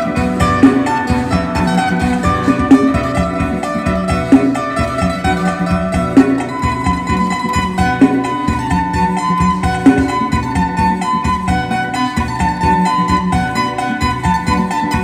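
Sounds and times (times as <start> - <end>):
plucked lute melody: 0.0 - 15.0
steady beat: 0.0 - 15.0.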